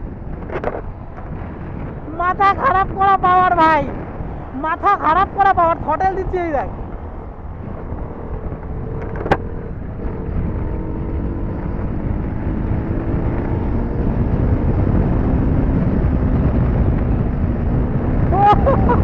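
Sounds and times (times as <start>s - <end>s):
motorcycle engine accelerating: 0.0s - 19.0s
wind rush over microphone: 0.0s - 19.0s.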